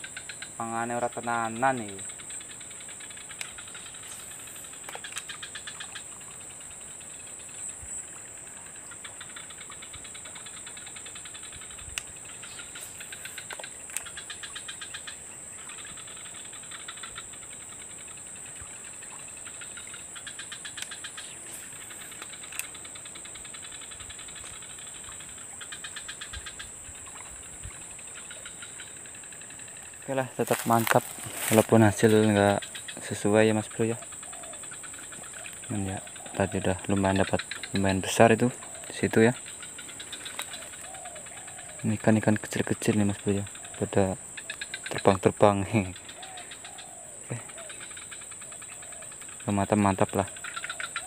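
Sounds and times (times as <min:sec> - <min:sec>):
high-pitched insect drone: 0:00.0 - 0:51.0.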